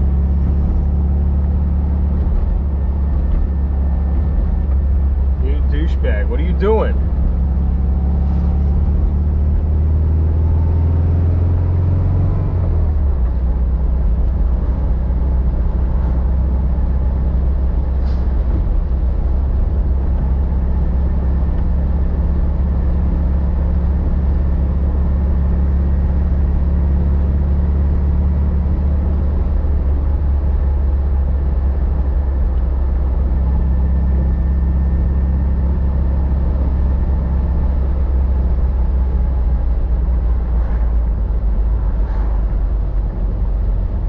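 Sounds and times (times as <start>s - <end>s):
car engine droning: 0.0s - 44.0s.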